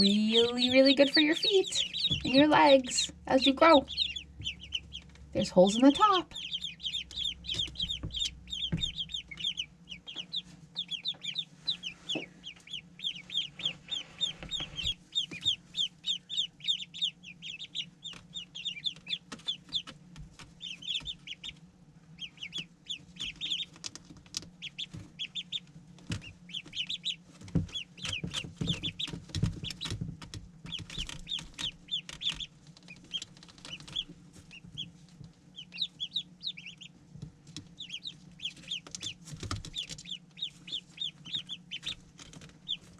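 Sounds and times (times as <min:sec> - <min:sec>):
ducklings peeping: 0:00.0 - 0:42.9
faint steady hum: 0:00.0 - 0:42.9.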